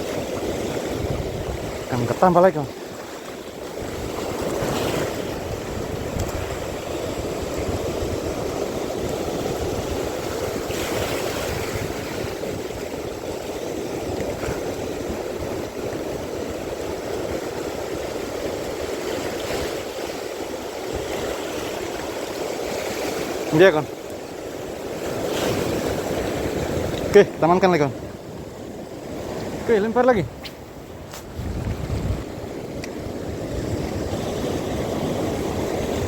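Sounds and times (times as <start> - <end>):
sea water washing: 0.0 - 36.0
wind: 0.0 - 36.0.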